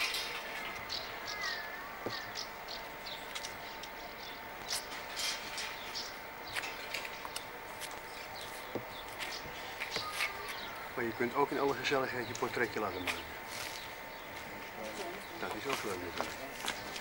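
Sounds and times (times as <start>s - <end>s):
faint high hum: 0.0s - 17.0s
small birds chirping: 0.0s - 17.0s.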